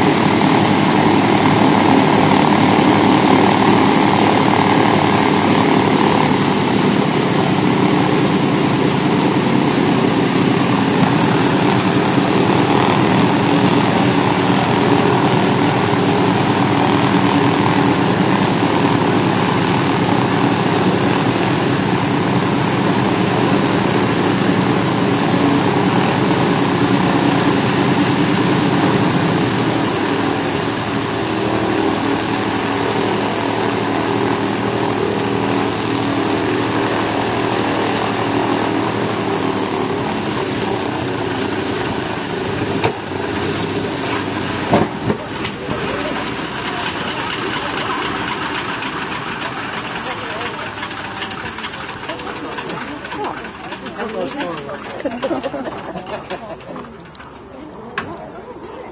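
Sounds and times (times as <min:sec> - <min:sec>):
radial engines running: 0:00.0 - 0:58.9.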